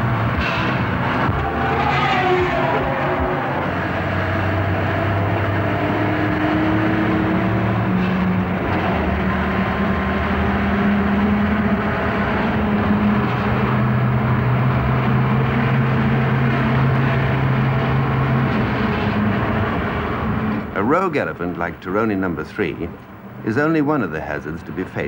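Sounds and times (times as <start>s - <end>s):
engine running hard: 0.0s - 25.0s.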